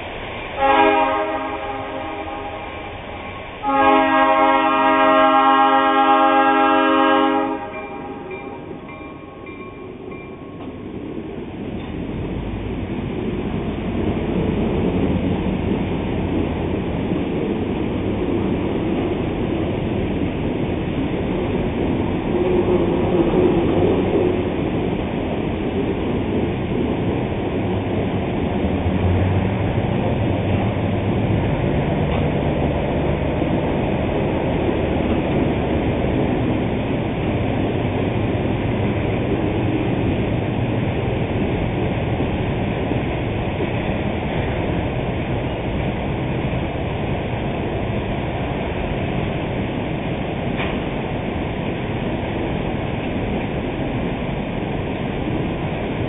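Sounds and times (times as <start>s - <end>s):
freight train rolling on bridge: 0.0s - 56.0s.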